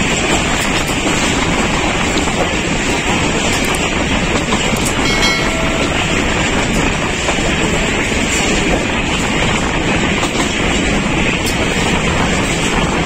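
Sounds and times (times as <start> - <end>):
train wheels rumbling on track: 0.0 - 13.0
wind on microphone: 0.0 - 13.0.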